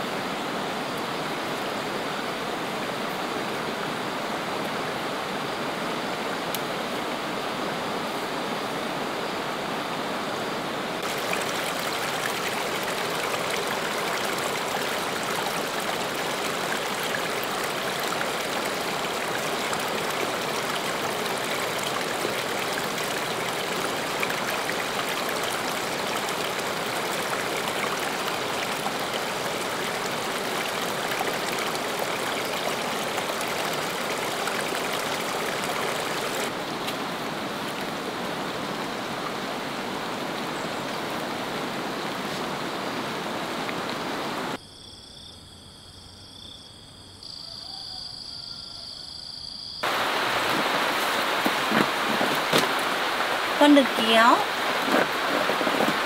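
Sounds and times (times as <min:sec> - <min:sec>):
heavy rain in forest: 0:00.0 - 0:44.6, 0:49.8 - 0:56.0.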